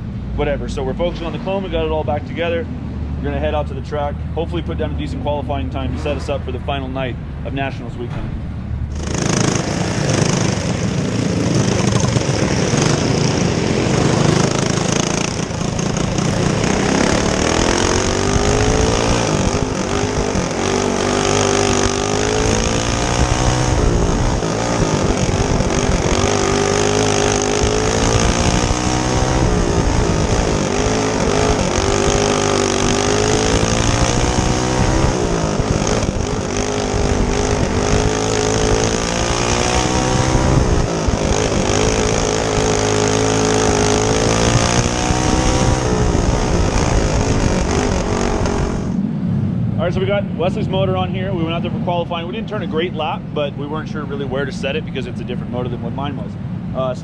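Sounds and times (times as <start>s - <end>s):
go-kart engine revving: 0.0s - 49.1s.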